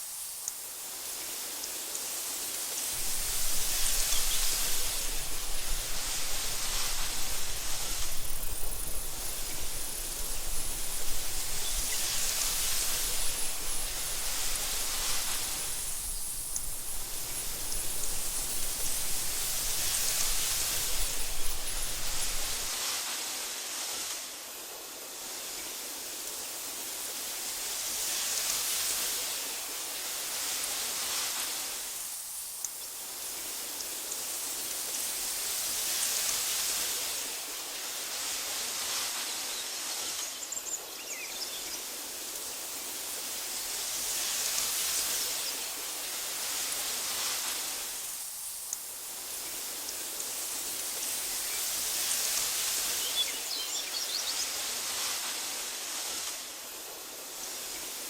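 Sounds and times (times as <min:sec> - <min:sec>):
wind blowing through grass: 0:00.0 - 0:58.0.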